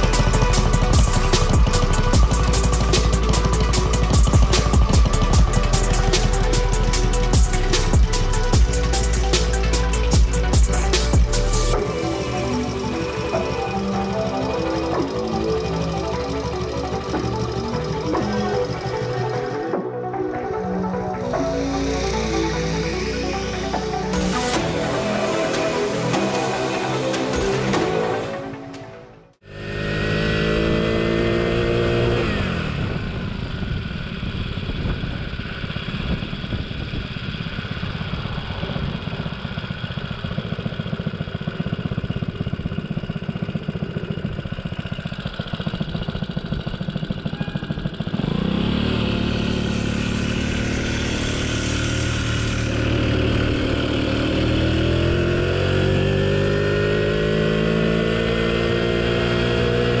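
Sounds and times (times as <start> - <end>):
moped engine: 0.0 - 60.0.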